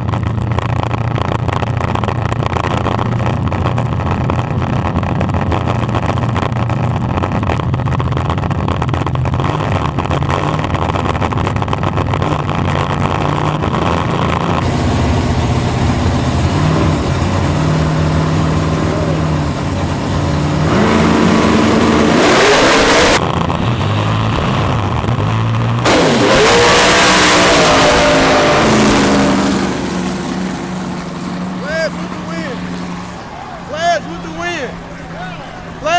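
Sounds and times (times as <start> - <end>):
race car engines idling: 0.0 - 35.9
engines revving at full throttle: 0.1 - 35.9.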